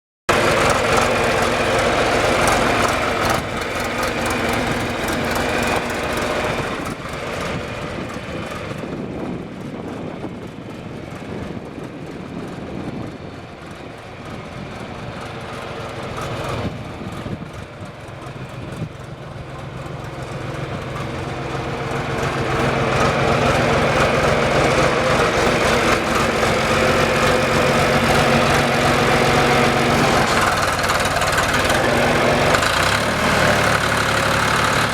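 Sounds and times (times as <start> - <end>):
backhoe diesel engine running: 0.3 - 34.9.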